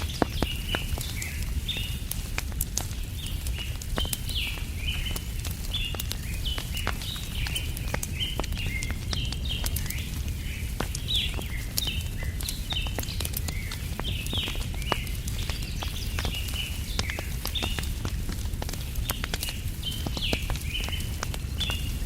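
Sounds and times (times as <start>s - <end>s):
small songbirds chirping: 0.0s - 22.0s
wood fire crackling: 0.0s - 22.0s.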